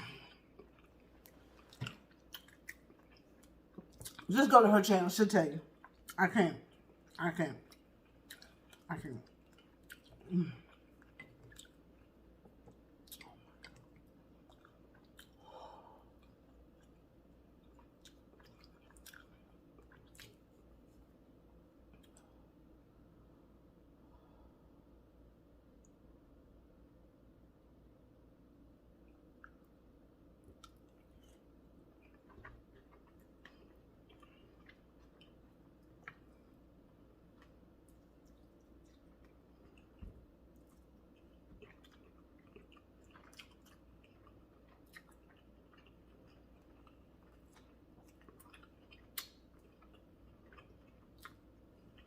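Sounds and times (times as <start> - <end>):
person chewing: 0.0 - 4.3, 5.7 - 21.2, 21.8 - 22.6, 30.4 - 52.0
low room hum: 0.0 - 52.0.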